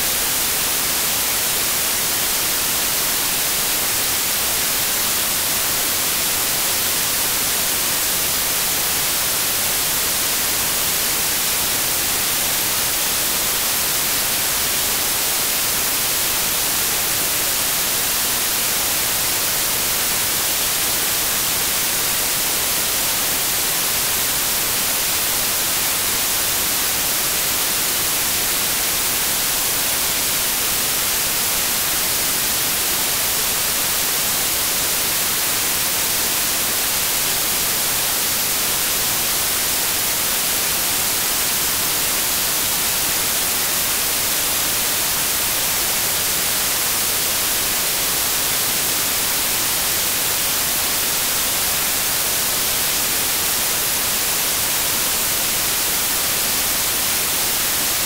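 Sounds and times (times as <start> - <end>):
white noise hiss: 0.0 - 58.0.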